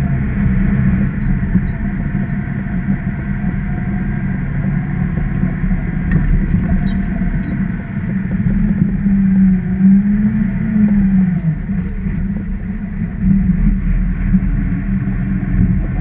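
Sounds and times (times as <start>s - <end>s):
diesel engine low drone: 0.0s - 16.0s.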